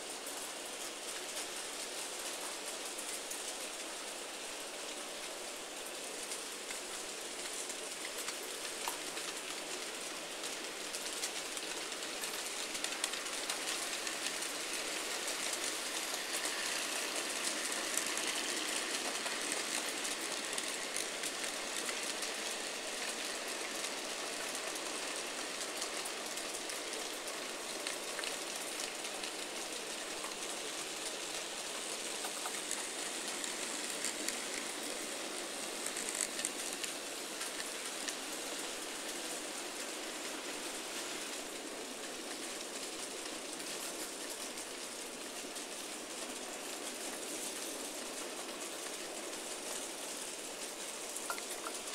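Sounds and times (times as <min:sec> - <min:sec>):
faint wheel ticking on rails: 0:00.0 - 0:51.9
model trains rolling on track: 0:00.0 - 0:51.9.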